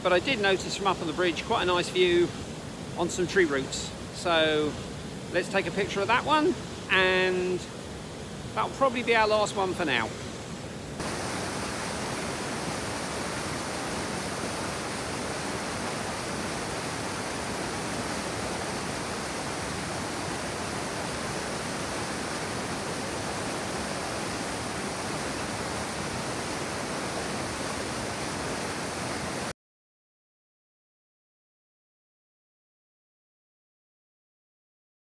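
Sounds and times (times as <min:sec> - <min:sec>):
river rushing over cascade: 0:00.0 - 0:29.5.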